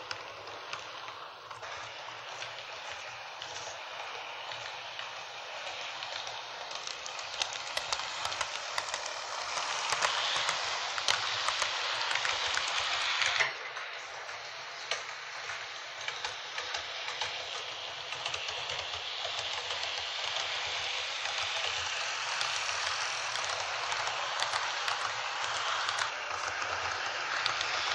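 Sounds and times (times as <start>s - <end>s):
model train running on track: 0.0s - 27.9s
wheels clicking on rails: 0.0s - 27.9s.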